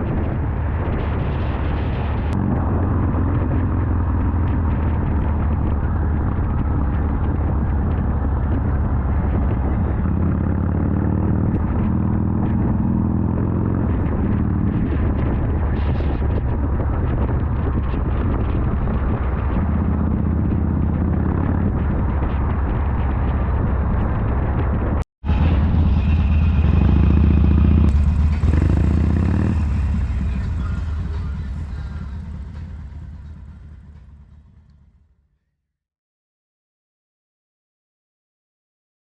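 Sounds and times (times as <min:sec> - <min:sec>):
motorcycle engine revving: 0:00.0 - 0:35.2.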